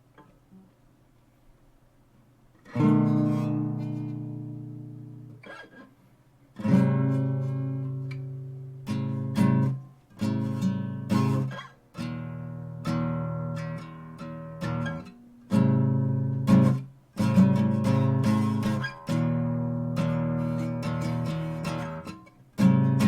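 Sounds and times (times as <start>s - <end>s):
acoustic guitar strummed: 2.6s - 5.9s, 6.6s - 23.0s.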